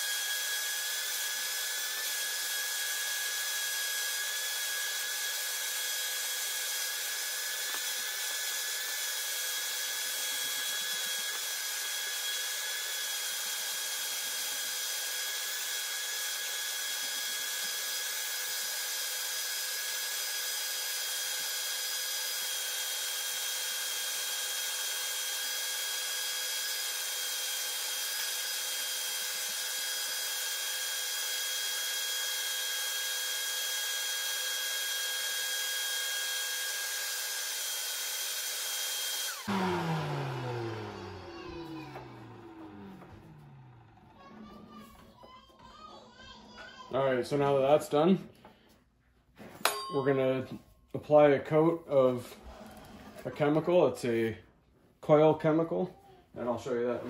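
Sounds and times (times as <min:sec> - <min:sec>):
vacuum cleaner whining: 0:00.0 - 0:45.4, 0:51.9 - 0:54.4.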